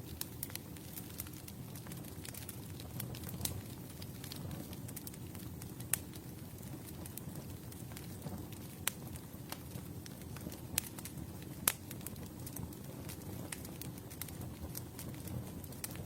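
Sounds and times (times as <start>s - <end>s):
campfire flames rumbling: 0.0s - 16.0s
fire crackling and popping: 0.0s - 16.0s.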